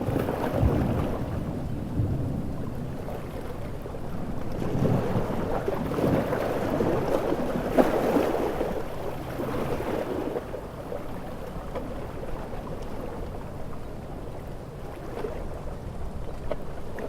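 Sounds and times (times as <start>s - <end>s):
ocean surf: 0.0s - 16.6s
wind: 0.0s - 17.0s.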